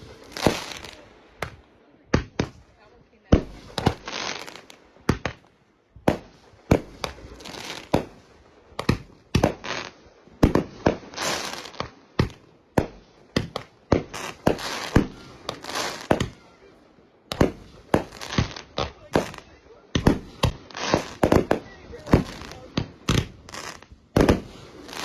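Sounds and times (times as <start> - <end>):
fireworks popping: 0.0 - 16.6, 17.3 - 25.0
fireworks crackling hiss: 0.0 - 25.0.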